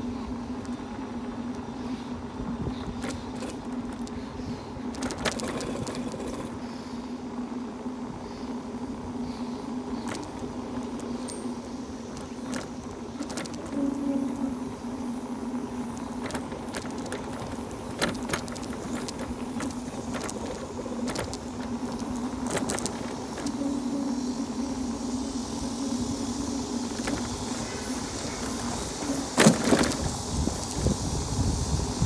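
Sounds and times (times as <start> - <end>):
bike rattles and clicks: 0.0 - 32.0
electric bike motor humming: 0.0 - 32.0.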